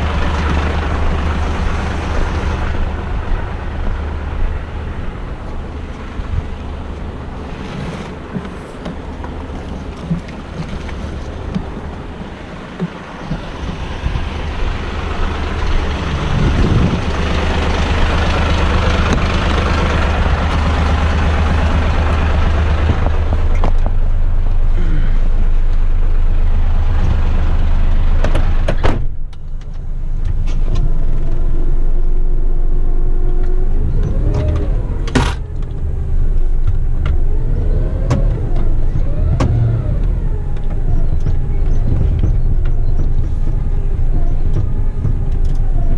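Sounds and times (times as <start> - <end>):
truck diesel engine revving: 0.0 - 10.5, 11.1 - 28.7, 30.8 - 45.9.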